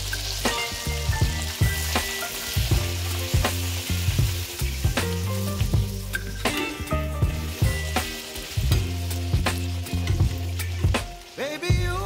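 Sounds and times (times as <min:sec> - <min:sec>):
food sizzling in hot oil: 0:00.0 - 0:12.0
music with beat and bass: 0:00.0 - 0:12.0.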